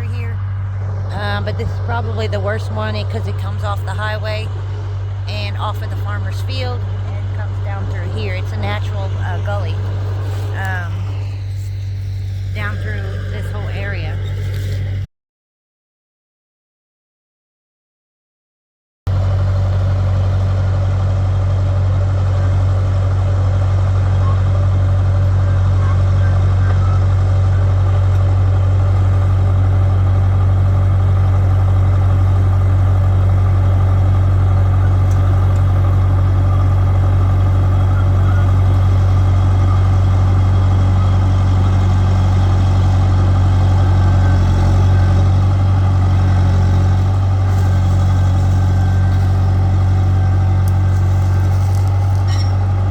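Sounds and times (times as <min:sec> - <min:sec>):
diesel engine droning: 0:00.0 - 0:15.1, 0:19.1 - 0:52.9.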